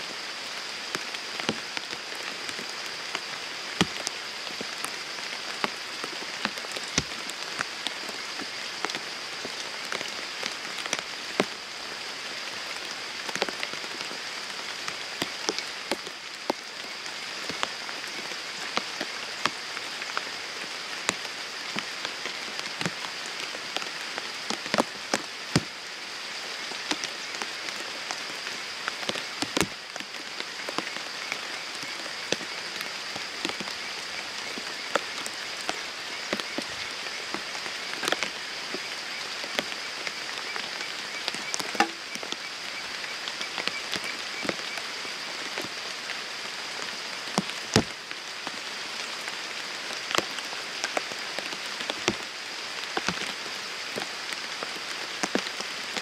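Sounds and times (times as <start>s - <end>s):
rain falling on a pond: 0.0s - 56.0s.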